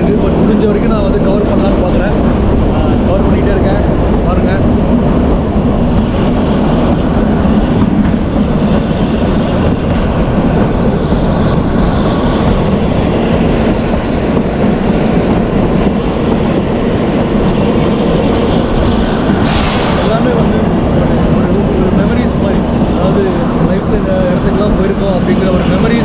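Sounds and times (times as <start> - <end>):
train wheels on track: 0.0 - 26.0.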